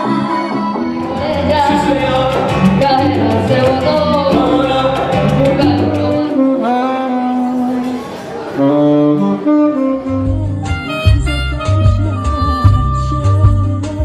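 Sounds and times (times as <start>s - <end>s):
person singing: 0.0s - 8.0s, 8.6s - 14.0s
salsa band music: 0.0s - 14.0s.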